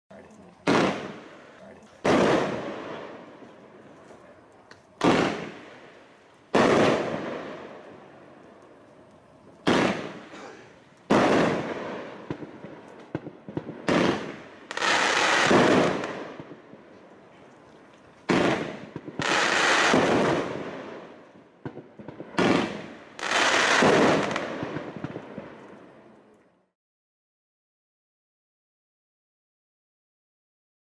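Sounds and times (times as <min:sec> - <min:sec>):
fireworks bangs: 0:00.6 - 0:17.3, 0:18.1 - 0:26.1.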